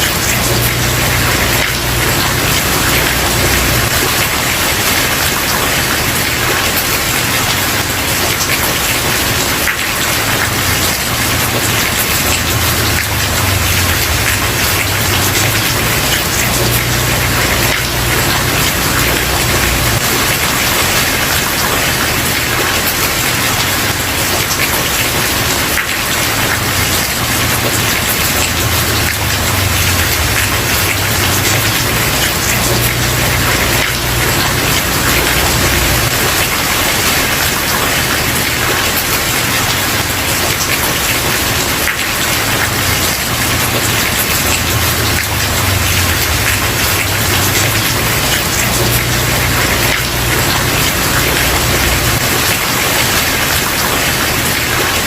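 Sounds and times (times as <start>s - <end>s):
rain on wooden porch: 0.0s - 55.0s.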